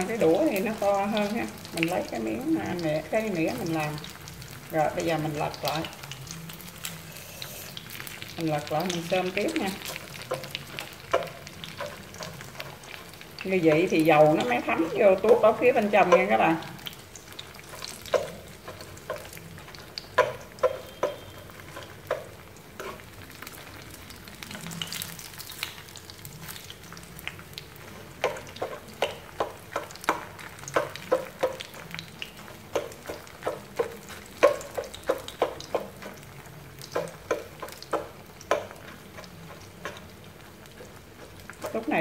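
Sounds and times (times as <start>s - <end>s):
frying in hot oil sizzling: 0.0s - 42.0s.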